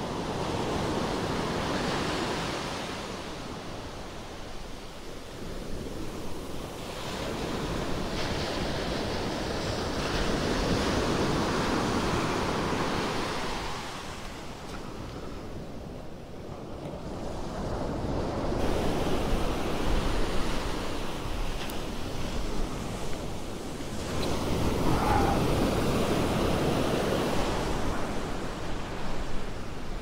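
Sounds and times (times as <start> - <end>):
ocean surf washing on sand: 0.0 - 30.0.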